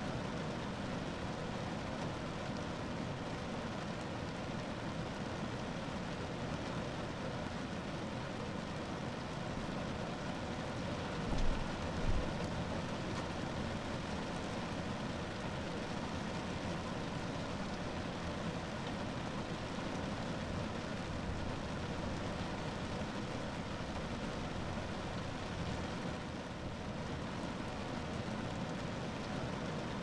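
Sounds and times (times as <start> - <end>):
rain on a car roof: 0.0 - 30.0.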